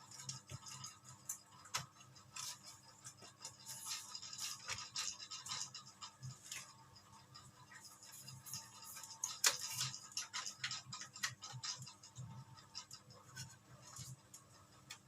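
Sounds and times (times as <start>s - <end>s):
scratching and rustling: 0.0s - 15.0s.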